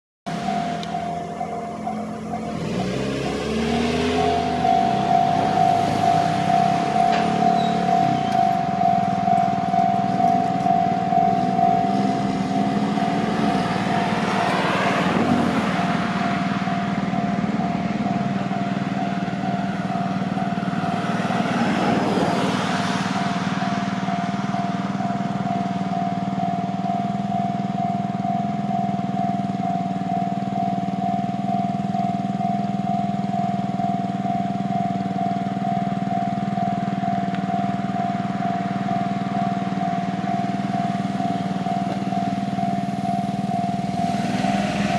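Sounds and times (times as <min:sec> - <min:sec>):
level crossing bell ringing: 0:00.3 - 0:44.9
train passing: 0:00.3 - 0:44.9.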